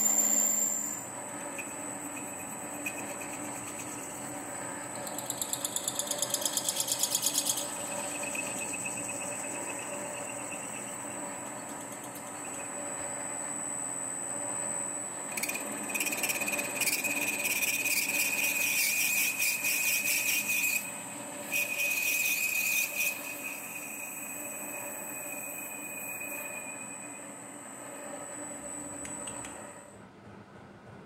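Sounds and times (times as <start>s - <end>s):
lathe tool squealing on metal: 0.0s - 4.3s, 5.0s - 13.0s, 15.3s - 28.6s
lathe hum: 0.0s - 29.8s.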